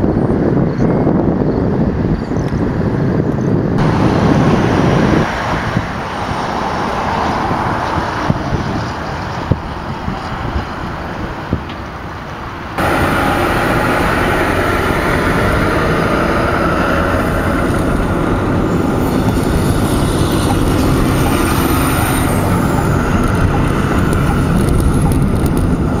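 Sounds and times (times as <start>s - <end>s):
road and engine noise inside car: 3.2s - 26.0s.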